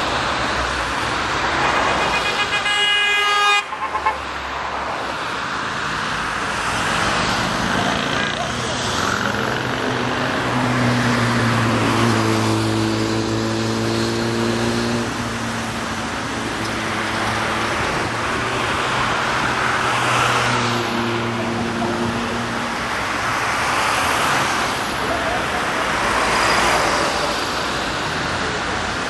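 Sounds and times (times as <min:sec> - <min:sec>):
cars driving past: 0:00.0 - 0:29.0.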